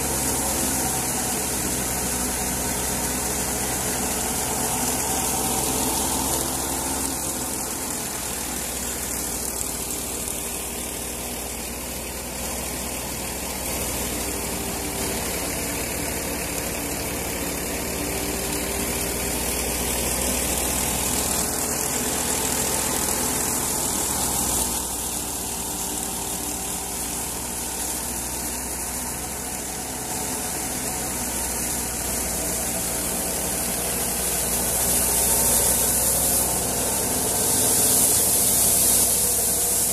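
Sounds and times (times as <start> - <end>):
threshing drum rushing hiss: 0.0 - 39.9
tractor engine humming: 0.0 - 39.9.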